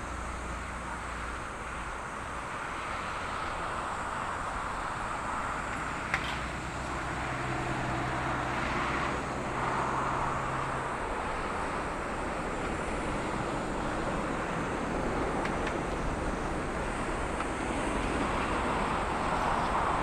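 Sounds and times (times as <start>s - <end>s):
jet airliner engine rush: 0.0s - 20.0s.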